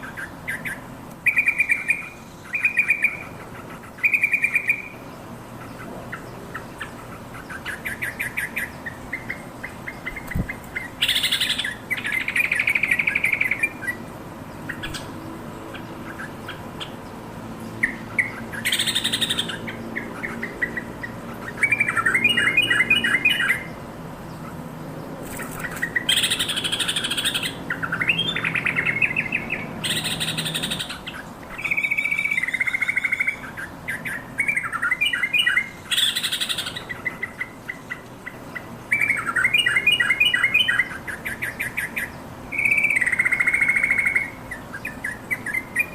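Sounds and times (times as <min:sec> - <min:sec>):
bird chattering calls: 0:00.0 - 0:17.1, 0:17.7 - 0:24.6, 0:25.2 - 0:45.9.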